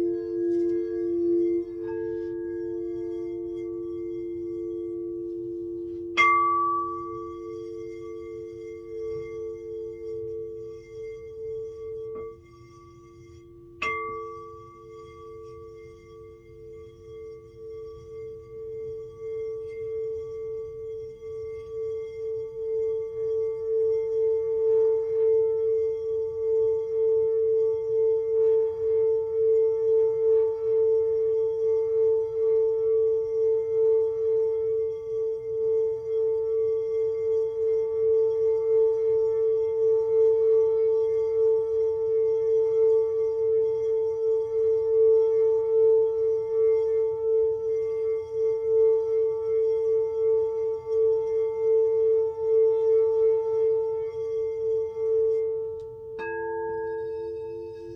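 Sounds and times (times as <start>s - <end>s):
singing bowl struck and ringing: 0.0s - 57.9s.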